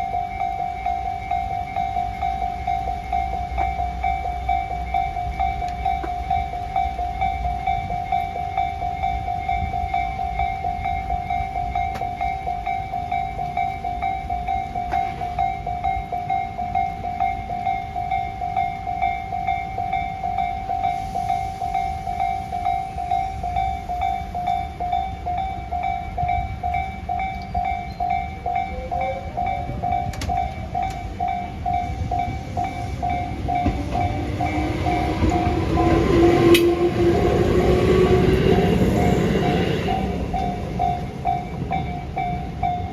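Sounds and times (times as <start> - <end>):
railroad crossing bell clanging: 0.0 - 42.9.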